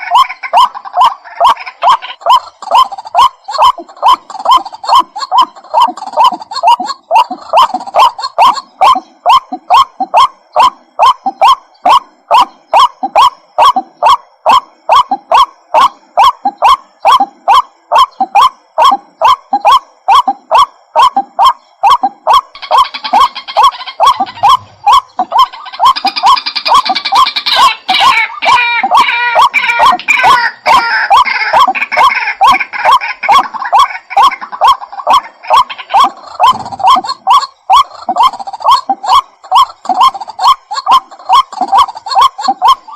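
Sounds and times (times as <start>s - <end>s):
waterhen kook call: 0.0s - 42.9s.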